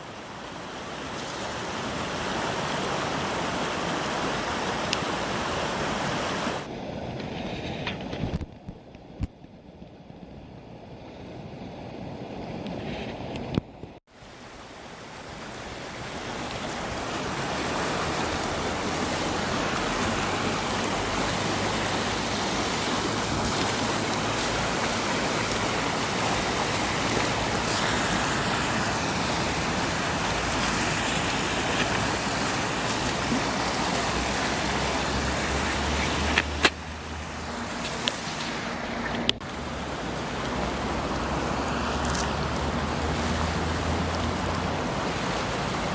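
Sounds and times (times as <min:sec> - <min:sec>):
river water rushing: 0:00.0 - 0:07.2, 0:14.1 - 0:45.9.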